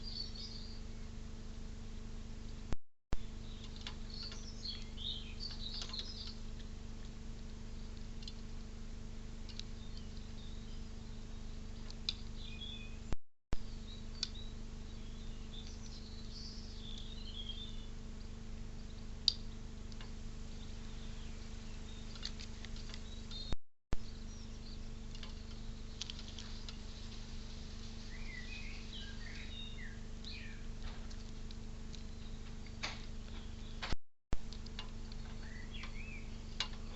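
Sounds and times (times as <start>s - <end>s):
small birds chirping: 0.0s - 1.2s, 2.4s - 8.5s, 9.4s - 36.9s
low electrical hum: 0.0s - 36.9s.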